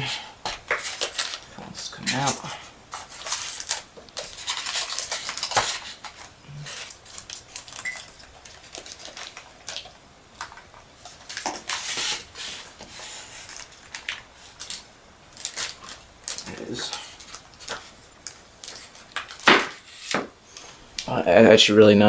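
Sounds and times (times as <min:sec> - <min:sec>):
box packaging rustling and clicking: 0:00.4 - 0:20.4.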